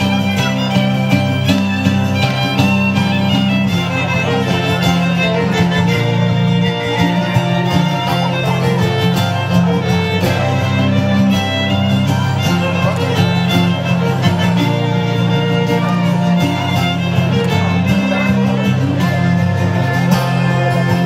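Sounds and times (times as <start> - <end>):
fiddle melody: 0.0 - 21.0
folk band playing: 0.0 - 21.0
steady bass: 0.0 - 21.0.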